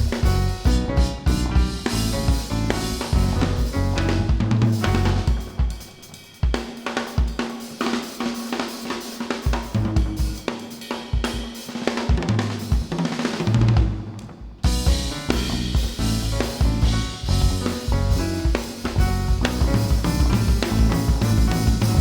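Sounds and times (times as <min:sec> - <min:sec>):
jazz drum kit playing: 0:00.0 - 0:22.0.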